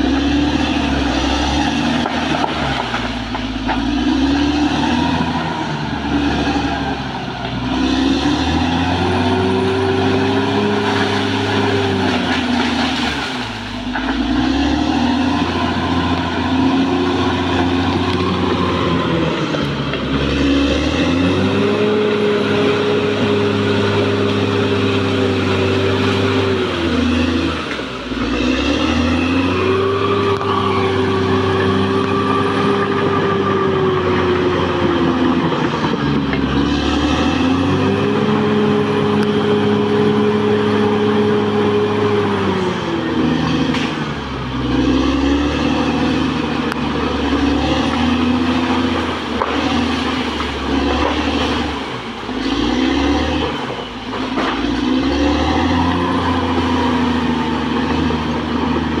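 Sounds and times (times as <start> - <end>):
bulldozer diesel engine revving: 0.0 - 59.0.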